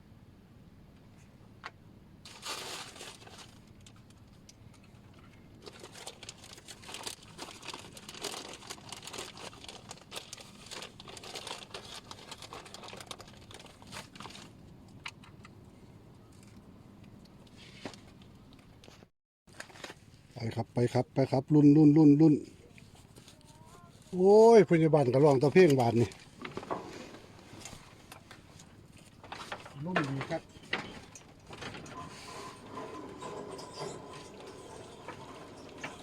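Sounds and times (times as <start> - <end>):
rustling and crinkling handling: 2.2 - 16.7, 17.3 - 20.4, 22.6 - 36.0.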